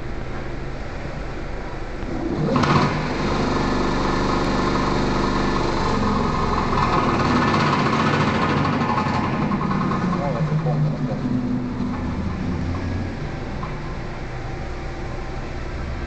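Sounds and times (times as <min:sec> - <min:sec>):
electric motors driving rollers: 0:02.1 - 0:16.0.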